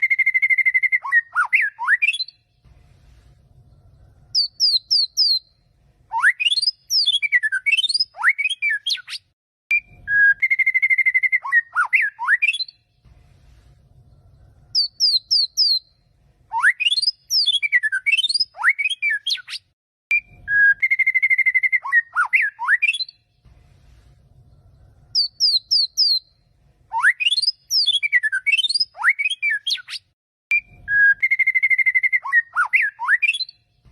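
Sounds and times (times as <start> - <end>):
recorded songbird song: 0.0 - 33.9.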